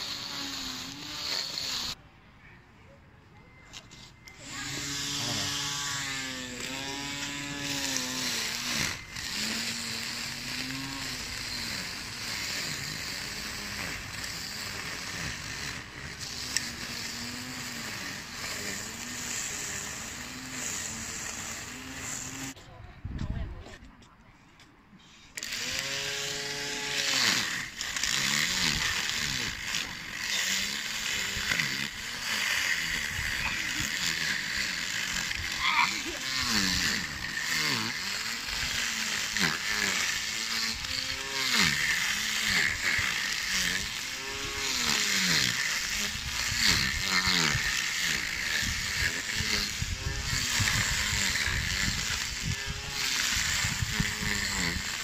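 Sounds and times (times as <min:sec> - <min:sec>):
grass trimmer cutting grass: 0:00.0 - 0:02.0, 0:03.6 - 0:22.6, 0:25.3 - 0:55.0.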